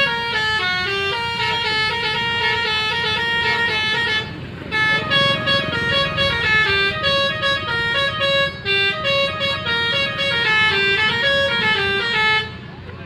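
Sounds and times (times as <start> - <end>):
bus horns playing a tune: 0.0 - 13.0.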